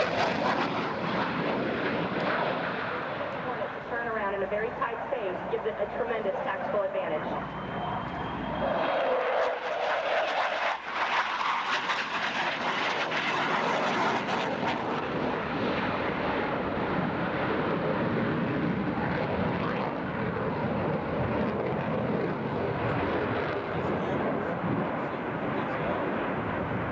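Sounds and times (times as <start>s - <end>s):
airplane engines rushing: 0.0s - 26.9s.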